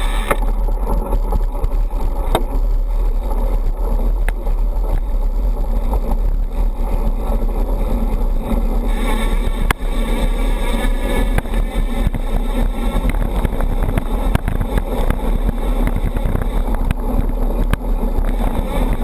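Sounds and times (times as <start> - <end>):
bike tyres crunching on gravel: 0.0 - 19.0
wind buffeting camera: 0.0 - 19.0.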